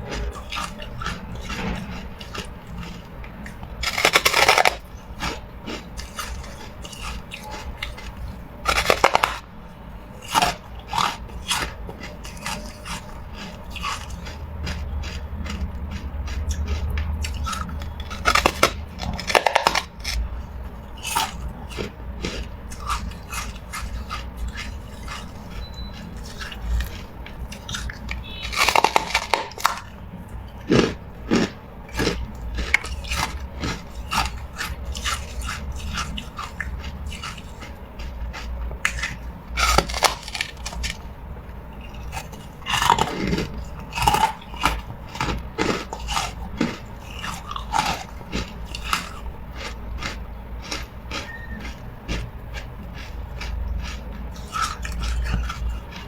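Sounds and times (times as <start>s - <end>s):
person crunching ice: 0.0s - 3.1s, 3.8s - 9.5s, 10.2s - 15.7s, 16.3s - 20.3s, 21.0s - 30.0s, 30.6s - 41.0s, 41.8s - 56.0s.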